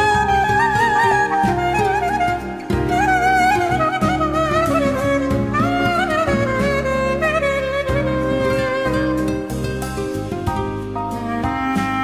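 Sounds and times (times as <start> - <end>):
vibrato melody with held accompaniment: 0.0 - 12.0.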